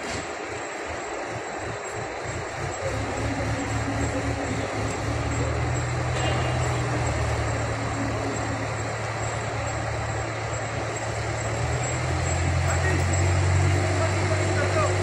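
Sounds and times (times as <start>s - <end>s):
crane diesel engine droning: 0.0s - 15.0s.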